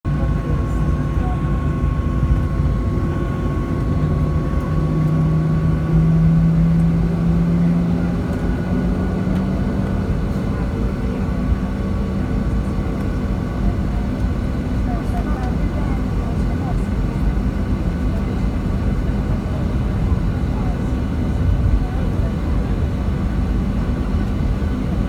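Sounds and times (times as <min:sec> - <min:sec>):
jet engine hum in cabin: 0:00.1 - 0:25.0.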